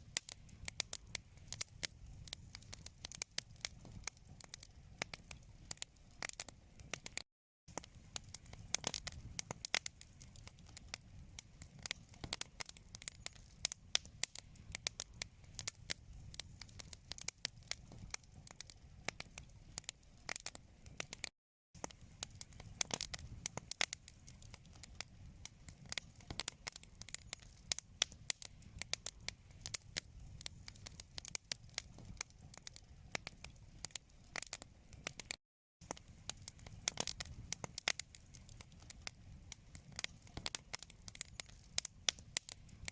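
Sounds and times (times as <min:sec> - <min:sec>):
low rumble of burning: 0:00.0 - 0:42.9
wood fire crackling and popping: 0:00.0 - 0:42.9.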